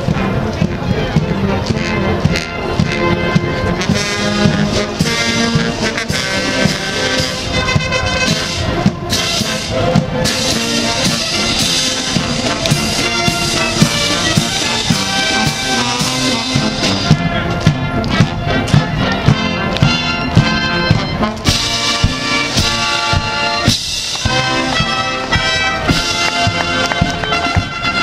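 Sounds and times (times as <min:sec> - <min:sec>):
bass drums: 0:00.0 - 0:28.0
brass playing a march: 0:00.0 - 0:28.0
snare drums: 0:00.0 - 0:28.0.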